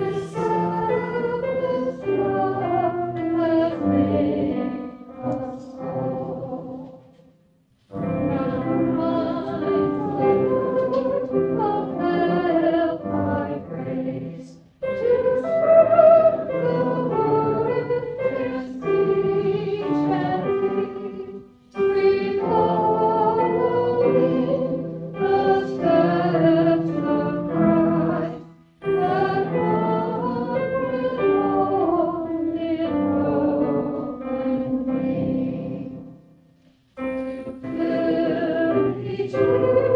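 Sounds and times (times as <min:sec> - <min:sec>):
group singing a hymn: 0:00.0 - 0:07.2, 0:07.9 - 0:36.2, 0:37.0 - 0:39.9.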